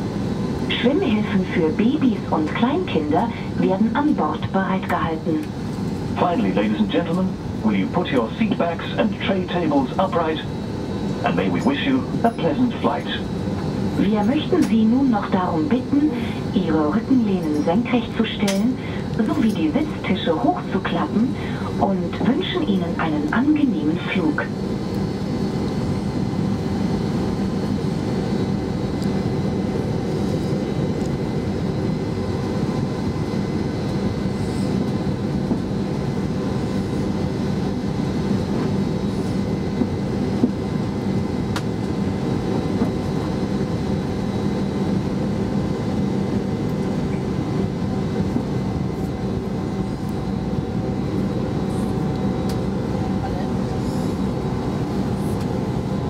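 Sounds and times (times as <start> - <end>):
jet engines humming in cabin: 0.0 - 56.0.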